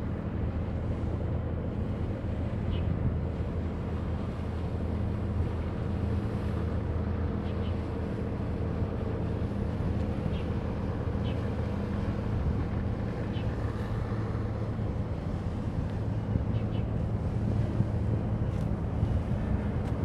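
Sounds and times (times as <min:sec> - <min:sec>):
boat engines droning: 0:00.0 - 0:20.0
wind on microphone: 0:00.0 - 0:20.0.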